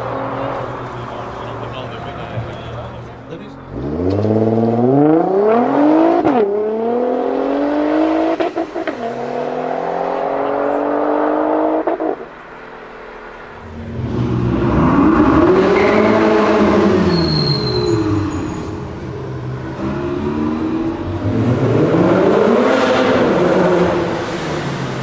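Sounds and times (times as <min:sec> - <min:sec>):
second car engine revving: 0:02.8 - 0:12.3, 0:13.6 - 0:25.0
car engine accelerating hard: 0:03.4 - 0:12.3, 0:13.6 - 0:25.0.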